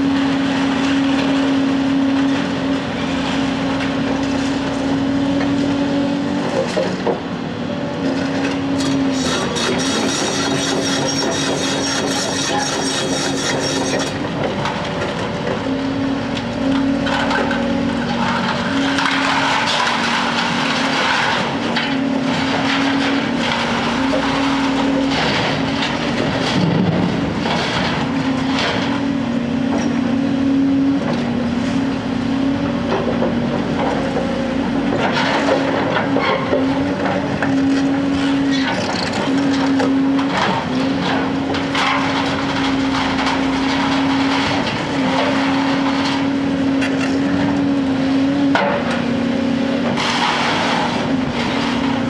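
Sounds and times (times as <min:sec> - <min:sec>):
excavator diesel engines running: 0:00.0 - 0:52.0.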